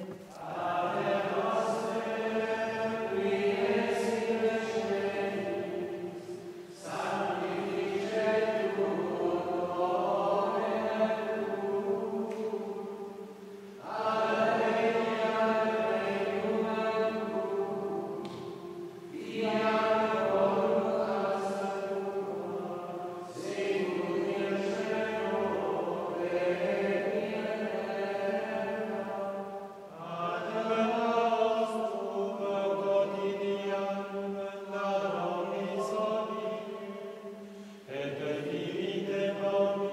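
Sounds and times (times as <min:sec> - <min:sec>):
men's voices chanting in unison: 0:00.4 - 0:13.2, 0:13.8 - 0:39.9.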